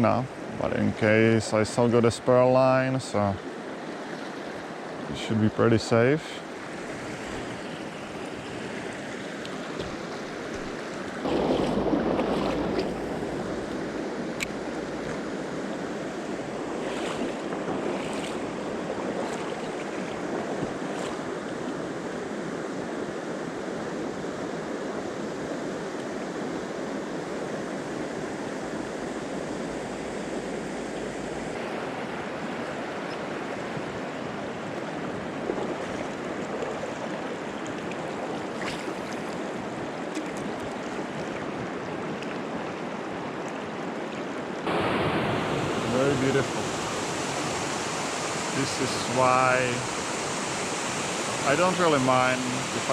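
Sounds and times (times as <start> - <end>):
rushing river water: 0.0 - 52.9.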